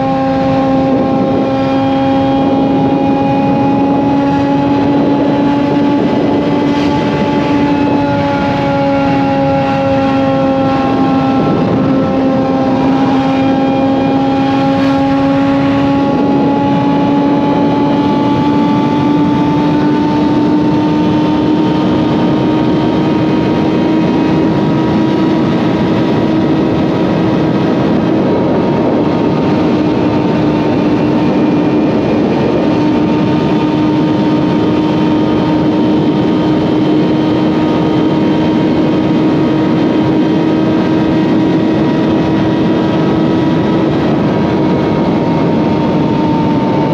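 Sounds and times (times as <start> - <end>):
constant rushing noise: 0.0 - 46.9
motorcycle engine cruising: 0.0 - 46.9.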